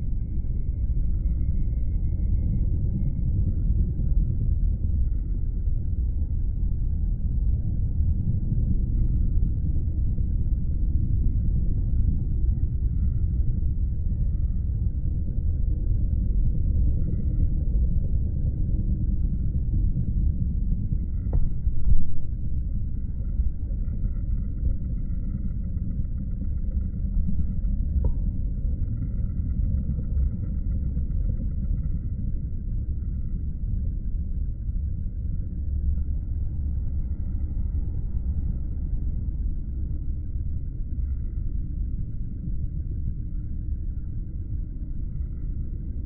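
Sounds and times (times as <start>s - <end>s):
low rumble: 0.0s - 46.0s.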